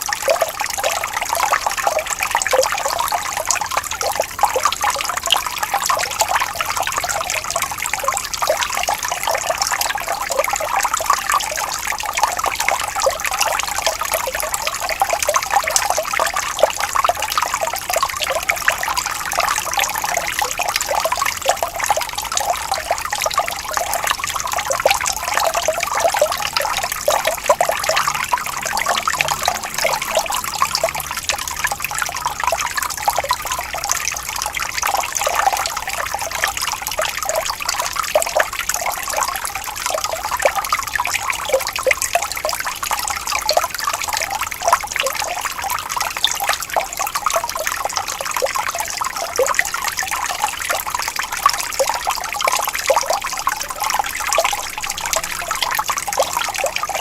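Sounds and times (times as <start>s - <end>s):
water trickling and bubbling: 0.0s - 57.0s.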